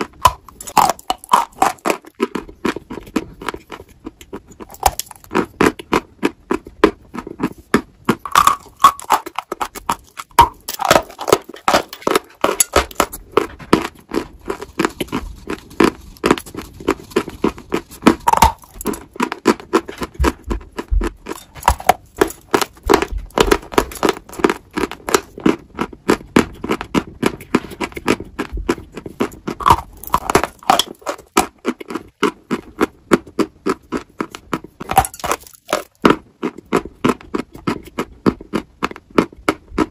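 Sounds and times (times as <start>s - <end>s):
crunchy chewing of chalk: 0.0s - 39.9s.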